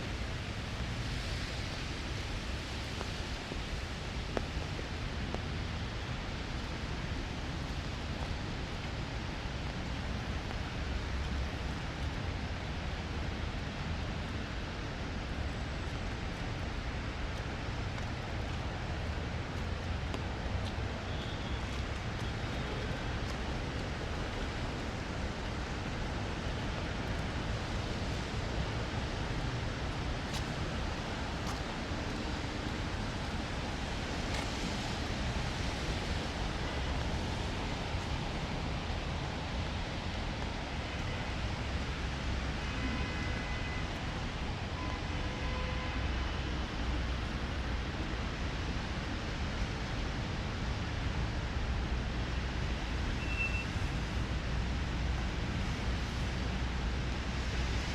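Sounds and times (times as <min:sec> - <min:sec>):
steady rain: 0:00.0 - 0:57.9.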